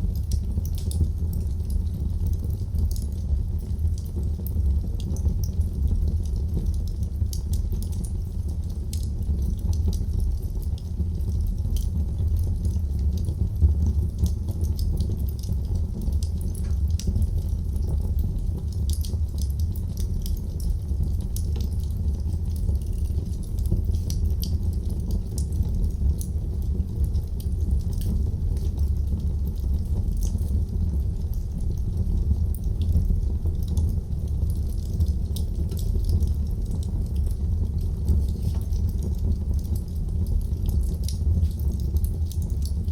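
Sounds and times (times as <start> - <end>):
fire crackles and pops: 0.0 - 42.9
low rumble of flame: 0.0 - 42.9.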